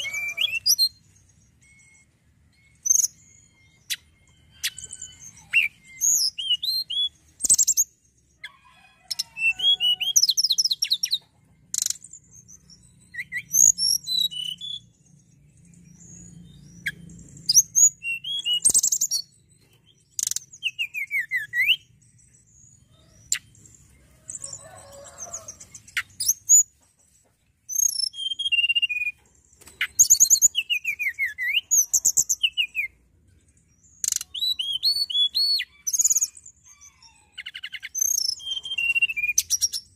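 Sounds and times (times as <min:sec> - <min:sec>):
songbird chirping and whistling: 0:00.0 - 0:26.8, 0:27.6 - 0:33.0, 0:33.6 - 0:39.9.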